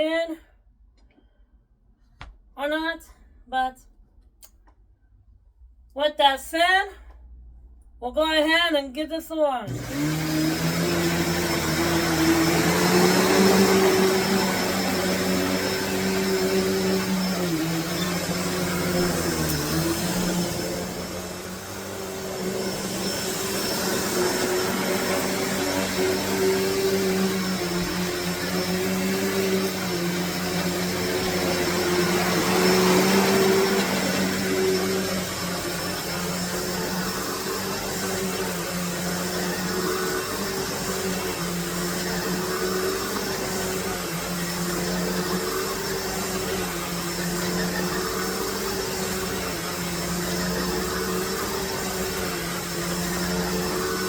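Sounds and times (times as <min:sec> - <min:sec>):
vacuum cleaner running: 0:09.7 - 0:54.0.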